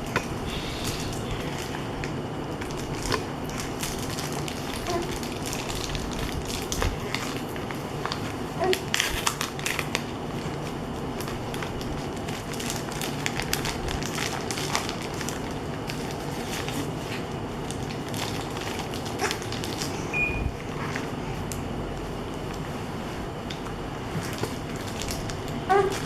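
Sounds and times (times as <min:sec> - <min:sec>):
packaging crinkling and rustling: 0:00.0 - 0:26.0
small clicks and crackles: 0:00.1 - 0:20.0, 0:23.4 - 0:26.0.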